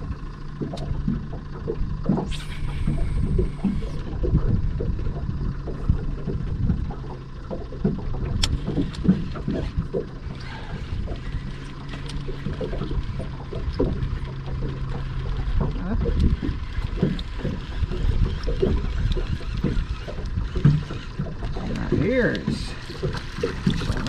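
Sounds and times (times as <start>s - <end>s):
fishing reel whirring: 0.0s - 7.4s, 8.1s - 24.0s
steady low hum: 0.0s - 24.0s
water lapping against boat hull: 0.0s - 24.0s.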